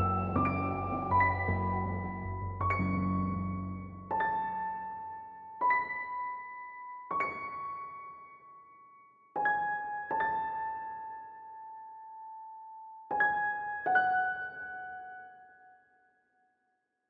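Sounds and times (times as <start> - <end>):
slow piano-like keyboard notes: 0.0 - 15.8.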